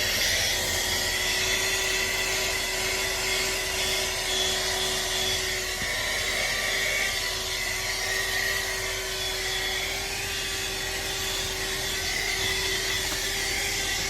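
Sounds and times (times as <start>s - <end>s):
handheld vacuum running: 0.0s - 14.0s.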